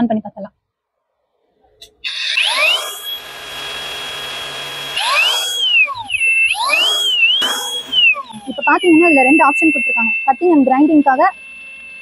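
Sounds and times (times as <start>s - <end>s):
angle grinder motor whine: 1.8s - 12.0s.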